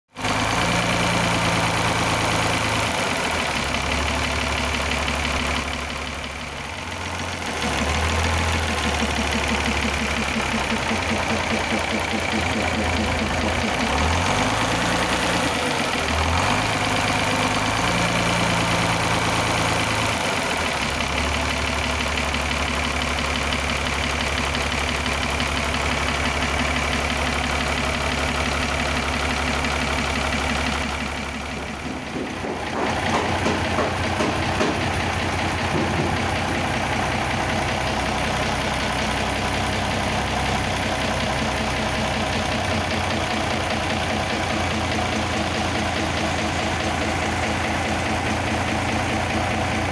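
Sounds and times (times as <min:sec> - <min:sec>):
diesel engine idling: 0:00.1 - 0:49.9.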